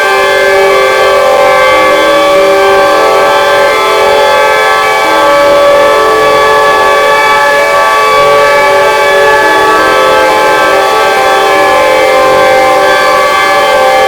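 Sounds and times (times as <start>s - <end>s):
synthesizer drone chords: 0.0s - 14.0s.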